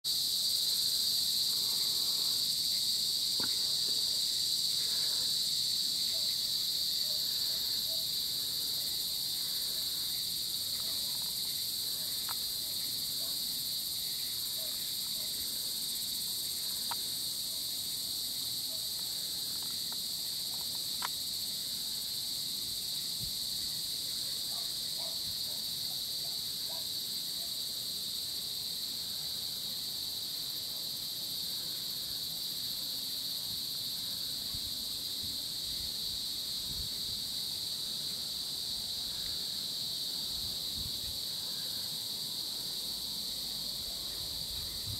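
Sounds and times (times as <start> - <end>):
insect chorus drone: 0.0 - 44.9.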